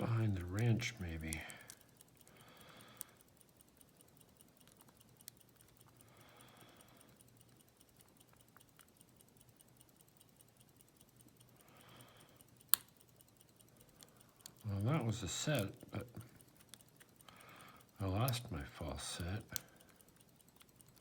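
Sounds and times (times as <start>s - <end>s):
lock pick ticking on padlock pins: 0.0s - 21.0s.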